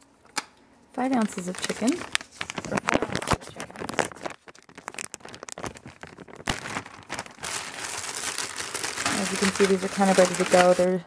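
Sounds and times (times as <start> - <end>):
plastic pouch crinkling: 1.0 - 11.0.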